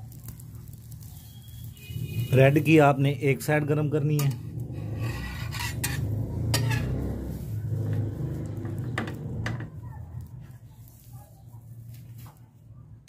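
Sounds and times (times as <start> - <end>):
metal spatula scraping a griddle: 0.3 - 11.2.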